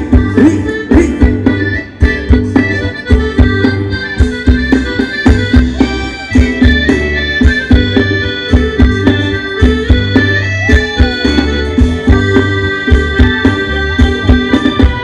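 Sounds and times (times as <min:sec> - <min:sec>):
bass: 0:00.0 - 0:15.0
drum beat: 0:00.0 - 0:15.0
reedy mouth organ melody: 0:00.1 - 0:15.0.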